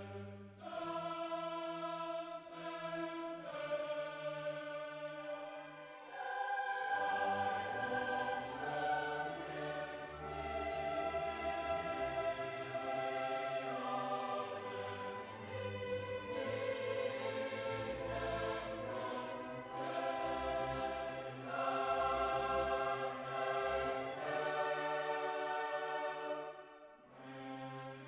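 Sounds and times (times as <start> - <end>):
choir with orchestra sustained chords: 0.0 - 28.0.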